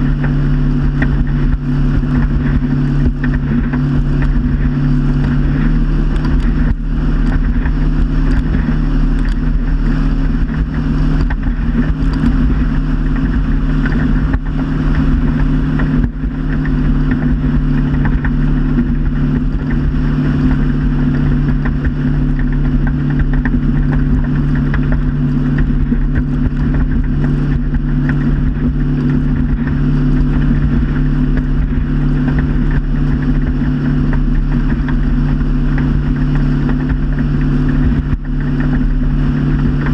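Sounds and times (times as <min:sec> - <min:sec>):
motorboat engine drone: 0:00.0 - 0:39.9
wind: 0:00.0 - 0:39.9.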